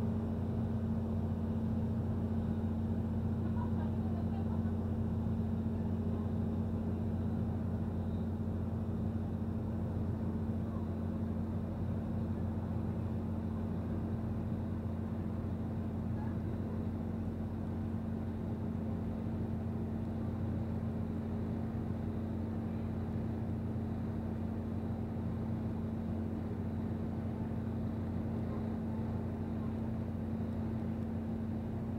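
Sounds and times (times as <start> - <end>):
boat engine drone: 0.0 - 31.9.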